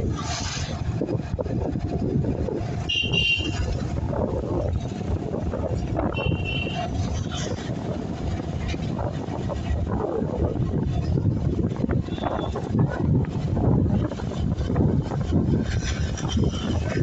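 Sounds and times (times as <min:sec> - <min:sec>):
vehicle road and engine noise: 0:00.0 - 0:17.0
wind rush: 0:00.0 - 0:17.0.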